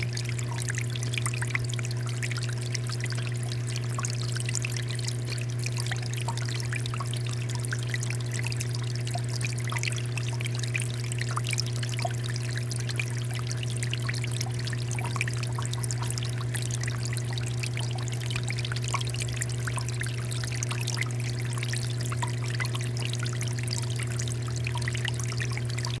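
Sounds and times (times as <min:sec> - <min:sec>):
fountain water trickling: 0:00.0 - 0:26.0
low pump hum: 0:00.0 - 0:26.0.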